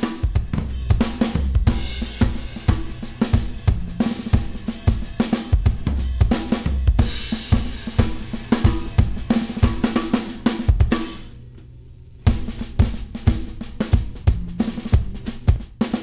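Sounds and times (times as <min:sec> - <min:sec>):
compressed drum kit groove: 0:00.0 - 0:16.0.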